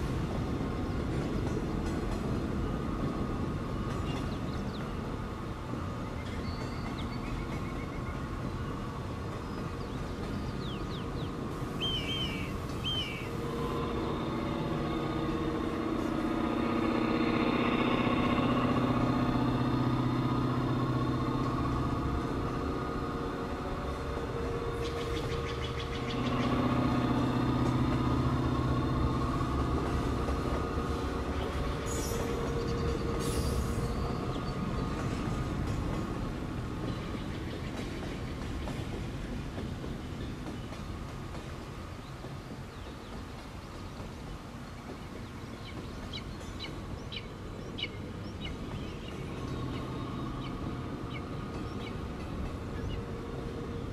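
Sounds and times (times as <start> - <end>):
diesel locomotive engines droning: 0.0 - 53.9
passenger train passing: 0.0 - 53.9.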